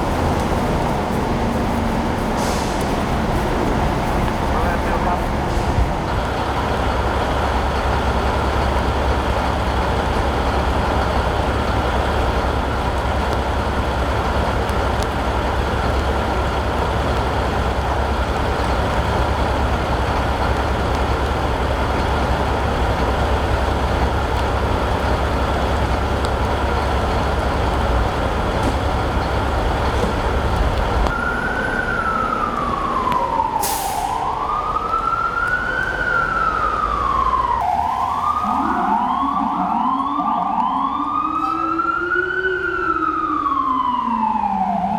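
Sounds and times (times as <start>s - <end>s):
emergency siren wailing: 0.0s - 44.9s
heavy vehicle engine idling: 0.0s - 44.9s.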